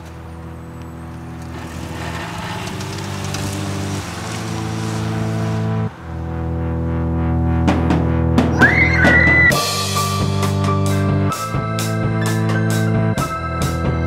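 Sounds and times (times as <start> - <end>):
sustained music chords: 2.6 - 13.9.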